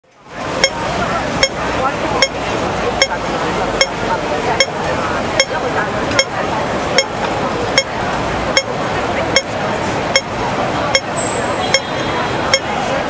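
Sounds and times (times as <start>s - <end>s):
crowd chatter: 0.0s - 13.0s
traffic: 0.0s - 13.0s
crossing signal ticking: 0.6s - 12.8s.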